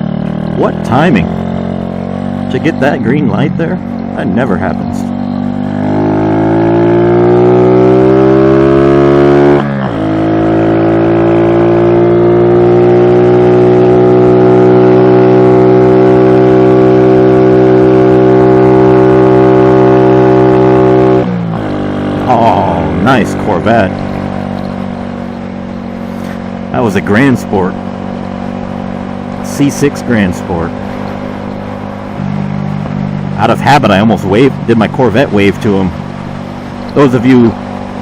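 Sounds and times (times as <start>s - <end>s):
motorbike engine accelerating: 0.0s - 38.0s.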